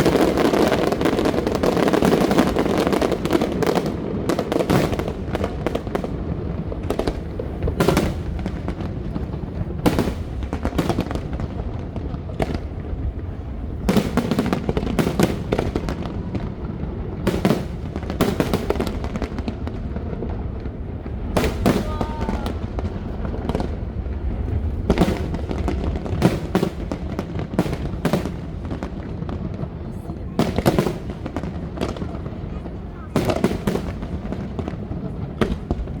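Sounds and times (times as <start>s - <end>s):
crowd noise: 0.0s - 36.0s
fireworks bangs: 0.0s - 36.0s.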